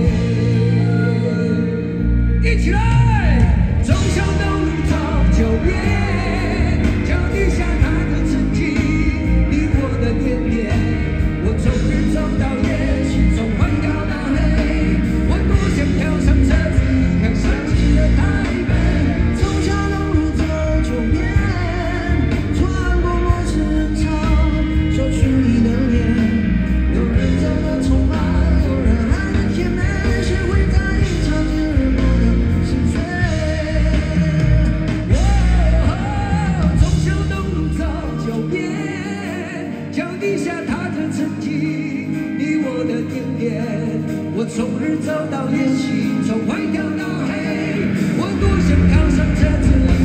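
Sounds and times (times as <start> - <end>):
live rock band playing: 0.0 - 50.0
man singing: 0.0 - 50.0.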